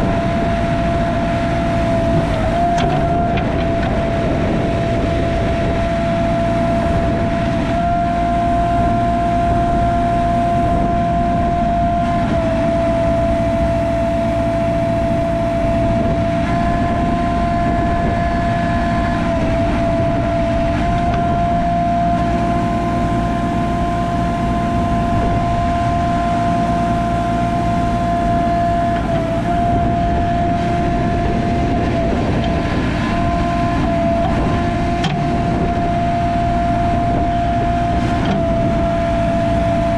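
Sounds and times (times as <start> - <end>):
constant high whine: 0.0 - 39.9
diesel engine running: 0.0 - 39.9.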